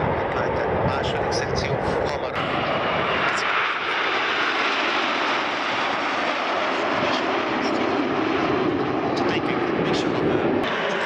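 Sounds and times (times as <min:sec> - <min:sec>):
jet planes flying past: 0:00.0 - 0:11.0.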